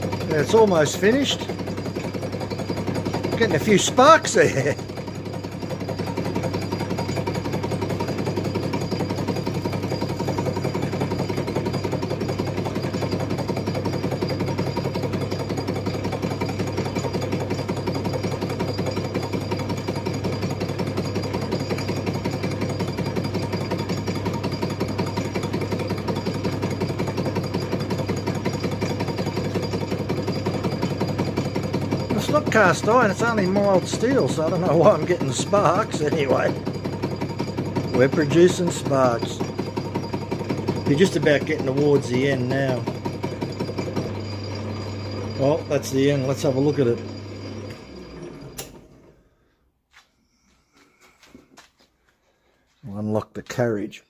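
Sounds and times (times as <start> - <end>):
lathe tool cutting clatter: 0.0 - 49.2
machine humming: 0.0 - 52.8.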